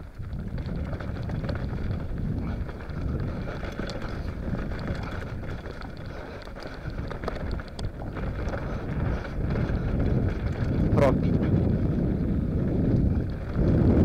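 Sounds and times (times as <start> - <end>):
bike rattling and clicking: 0.0 - 14.0
wind buffeting microphone: 0.0 - 14.0
tyres rumbling on dirt: 0.2 - 14.0.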